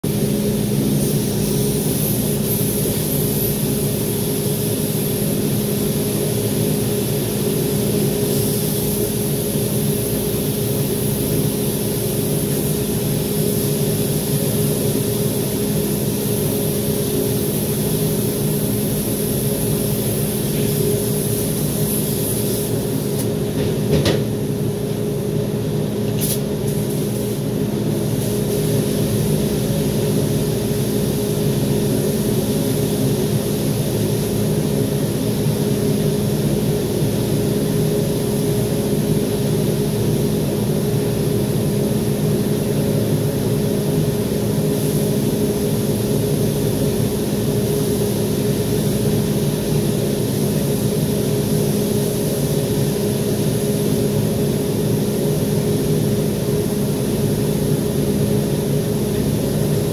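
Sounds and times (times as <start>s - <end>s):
spray gun air hiss: 0.1s - 59.9s.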